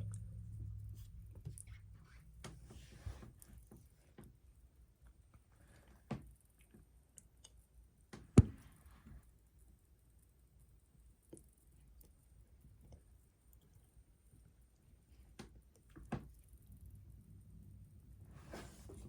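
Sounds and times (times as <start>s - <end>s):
faint computer hum: 0.0s - 19.0s.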